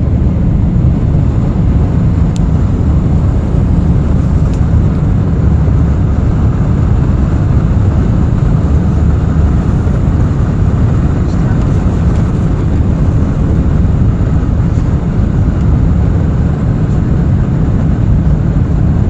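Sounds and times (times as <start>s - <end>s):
jet engines rumbling: 0.0s - 19.0s
rushing air: 0.0s - 19.0s.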